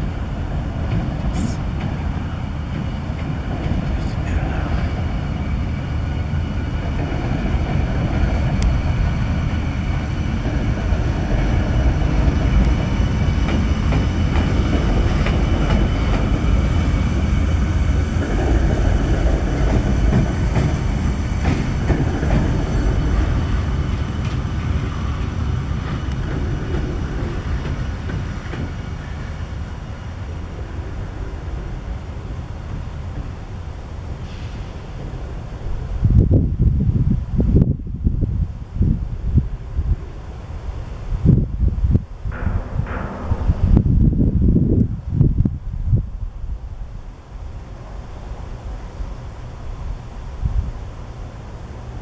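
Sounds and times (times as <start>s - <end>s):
diesel rail vehicle engine rumble: 0.0s - 52.0s.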